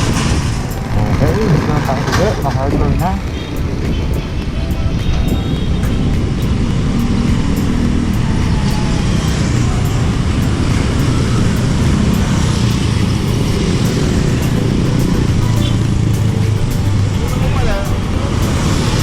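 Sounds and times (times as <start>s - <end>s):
highway traffic rumble: 0.0s - 19.0s.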